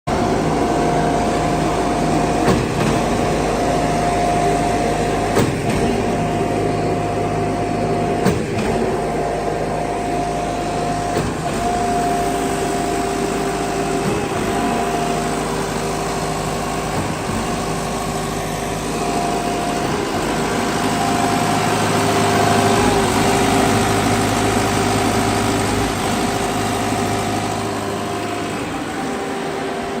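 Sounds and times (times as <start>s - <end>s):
concrete pump engine hum: 0.1s - 30.0s
lower whine: 0.1s - 30.0s.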